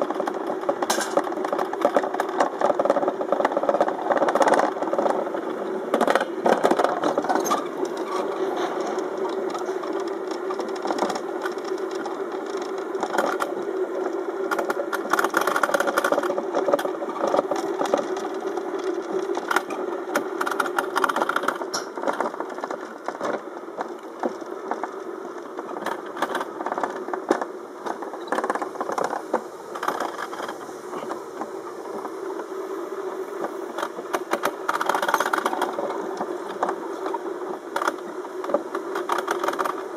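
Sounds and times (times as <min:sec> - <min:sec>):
sled clattering on track: 0:00.0 - 0:32.6, 0:33.3 - 0:39.9
sled rolling rumble on track: 0:00.0 - 0:39.9.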